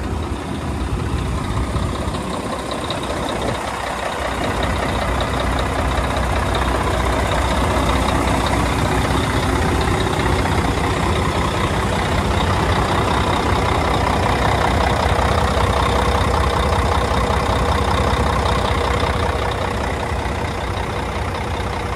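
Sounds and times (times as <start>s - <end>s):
diesel truck engine idling: 0.0s - 21.9s.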